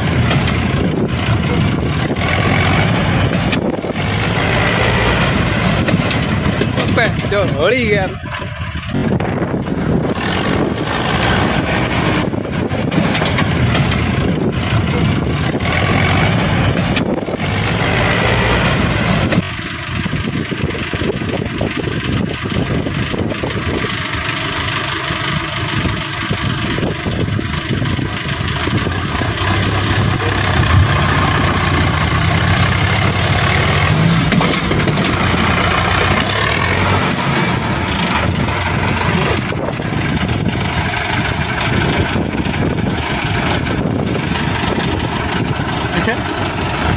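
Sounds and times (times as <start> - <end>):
tractor diesel engine running hard: 0.0 - 46.9.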